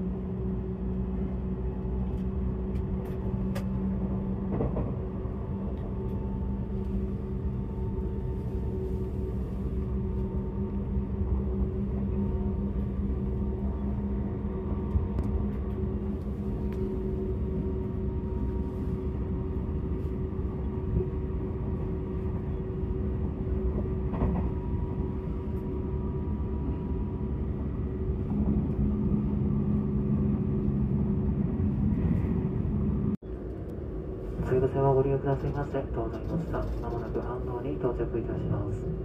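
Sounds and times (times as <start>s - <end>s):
steady humming tones: 0.0s - 39.0s
train cabin low rumble: 0.0s - 39.0s.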